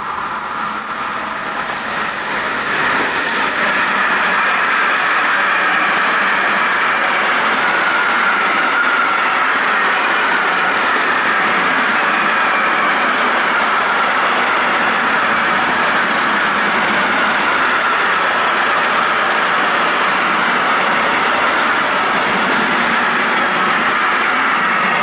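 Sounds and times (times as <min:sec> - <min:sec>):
train wheels on rails: 0:00.0 - 0:25.0.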